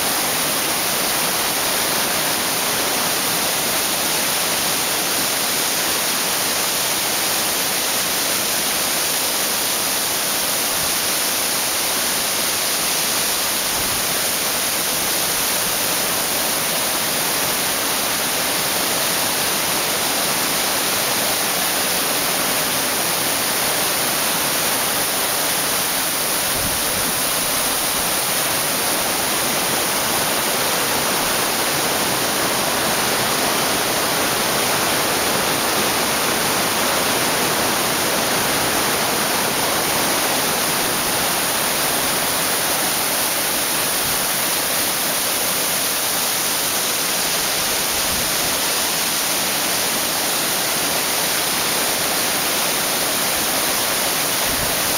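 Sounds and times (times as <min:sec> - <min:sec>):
waterfall rushing over rocks: 0:00.0 - 0:54.9.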